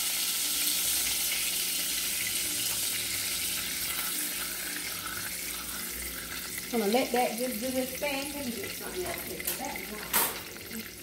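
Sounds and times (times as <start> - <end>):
butter sizzling in a saucepan: 0.0 - 11.0.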